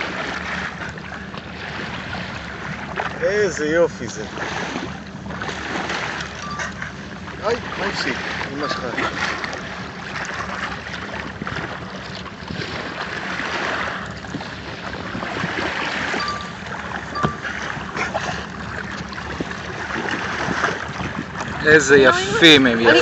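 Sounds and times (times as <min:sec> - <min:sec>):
boat engine hum: 0:00.0 - 0:23.0
water splashing along boat hull: 0:00.0 - 0:23.0.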